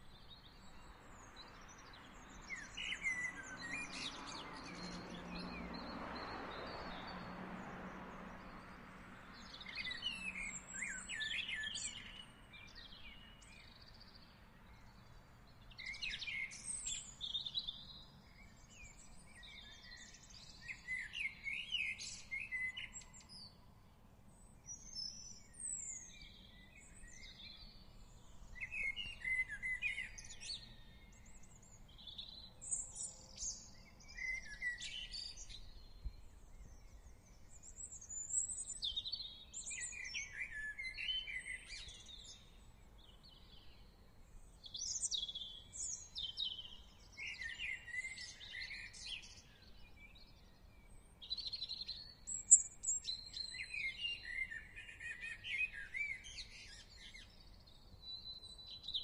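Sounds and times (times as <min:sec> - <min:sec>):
songbirds chirping and warbling: 0:00.0 - 0:59.0.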